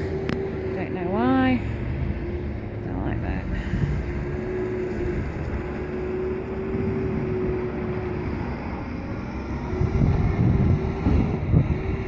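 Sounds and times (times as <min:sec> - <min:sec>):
low rumble: 0:00.0 - 0:12.0
steady engine drone: 0:00.0 - 0:12.0
wind buffeting microphone: 0:00.0 - 0:12.0.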